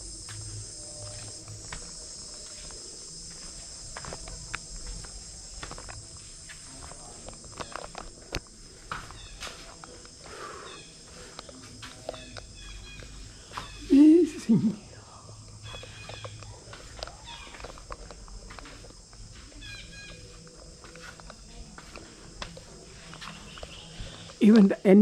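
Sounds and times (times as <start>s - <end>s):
insect chorus drone: 0.0s - 25.0s
footsteps clicking: 0.2s - 13.8s, 15.3s - 24.7s.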